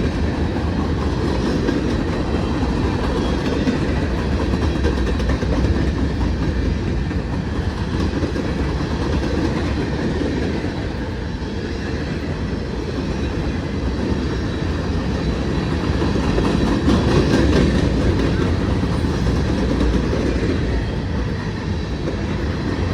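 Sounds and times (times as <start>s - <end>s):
rail clickety-clack: 0.0s - 22.9s
train wheels rumbling on rails: 0.0s - 22.9s.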